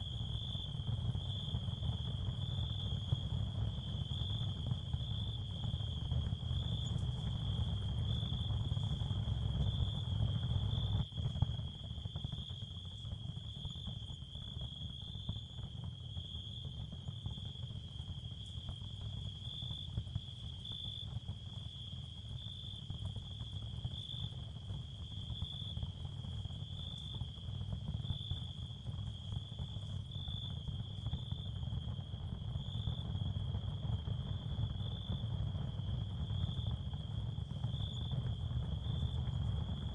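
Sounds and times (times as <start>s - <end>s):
cricket trill: 0.0s - 39.9s.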